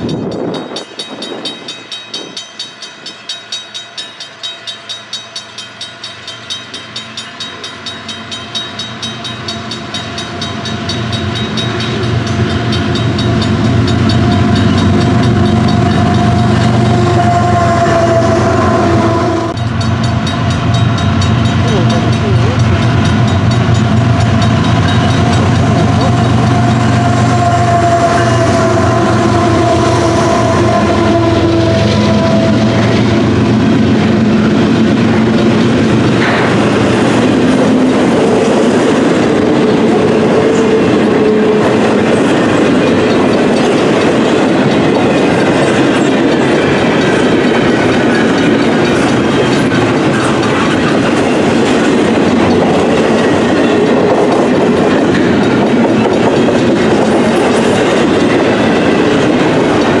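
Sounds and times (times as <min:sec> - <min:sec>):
locomotive hum: 0:00.0 - 1:00.0
steel wheels rumbling on rail: 0:00.0 - 1:00.0.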